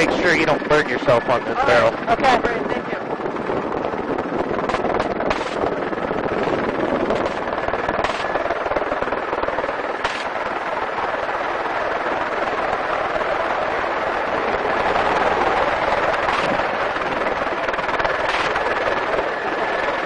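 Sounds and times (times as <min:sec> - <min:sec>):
helicopter rotor and turbine: 0:00.0 - 0:20.0.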